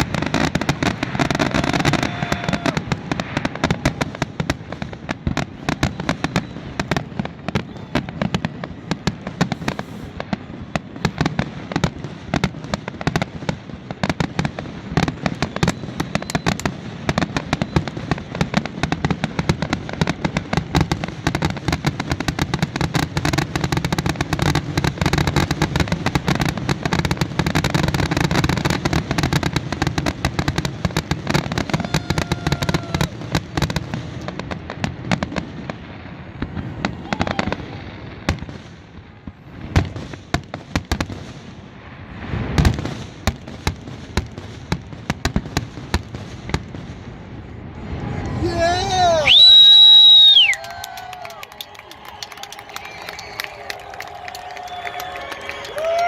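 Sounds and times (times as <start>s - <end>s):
fireworks bursts and crackling: 0.0s - 56.0s.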